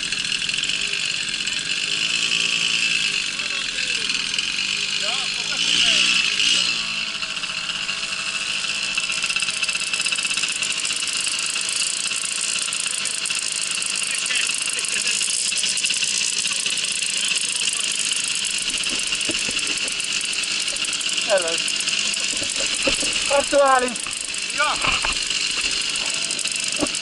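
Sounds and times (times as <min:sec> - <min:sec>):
moped two-stroke engine running: 0:00.0 - 0:27.0.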